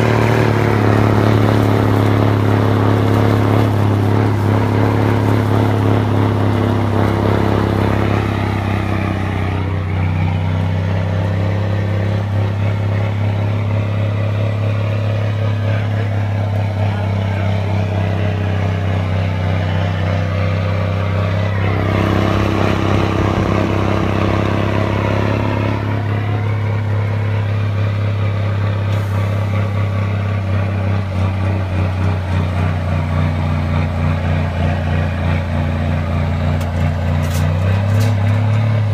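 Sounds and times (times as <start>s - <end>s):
broad rushing noise: 0.0s - 38.9s
diesel engine drone: 0.0s - 38.9s.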